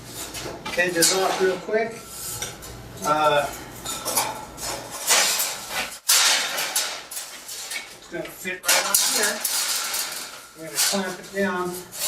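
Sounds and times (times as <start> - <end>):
metal clanking and scraping: 0.0 - 12.0.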